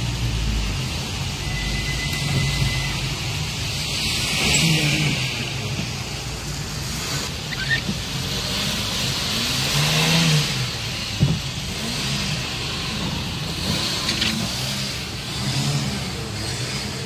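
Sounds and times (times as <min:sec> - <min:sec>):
rain on windshield: 0:00.0 - 0:15.9
water spraying from tyres: 0:00.0 - 0:17.0
car engine running: 0:03.2 - 0:17.0.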